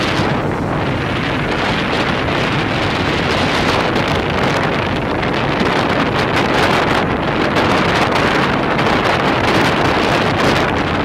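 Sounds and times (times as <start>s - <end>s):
train rumbling on rails: 0.0s - 11.0s
wind buffeting microphone: 0.0s - 11.0s.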